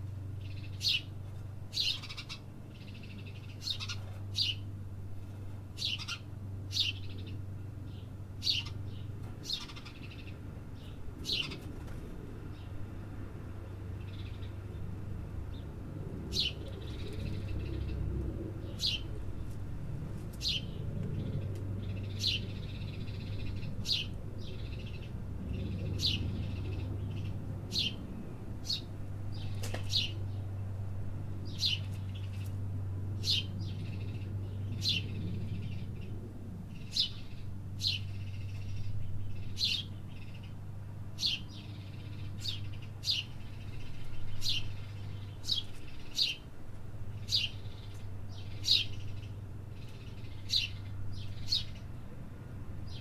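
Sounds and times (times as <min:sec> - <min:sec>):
small birds chirping: 0:00.0 - 0:13.0, 0:13.6 - 0:19.7, 0:20.3 - 0:53.0
low city hum: 0:00.0 - 0:53.0.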